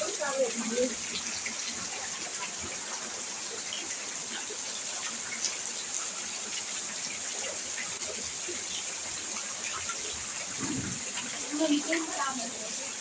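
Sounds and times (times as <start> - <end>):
steady rain hiss: 0.0 - 13.0
ticks of raindrops: 0.0 - 13.0.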